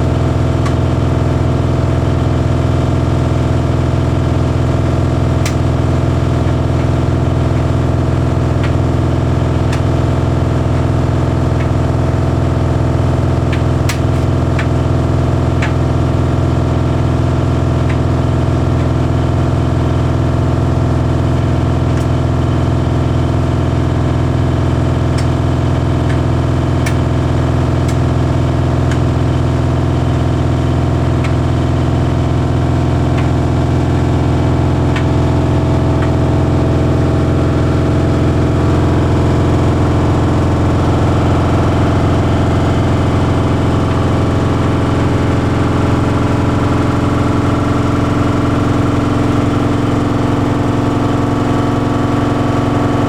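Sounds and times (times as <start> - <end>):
tumble dryer humming: 0.0 - 53.0.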